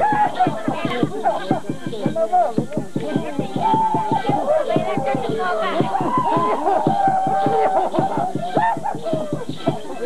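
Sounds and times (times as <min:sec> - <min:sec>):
live folk dance music: 0:00.0 - 0:10.0.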